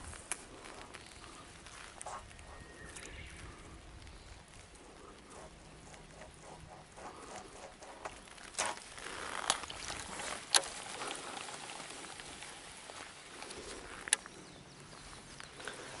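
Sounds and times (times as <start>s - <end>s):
rustling noise: 0.0s - 14.2s.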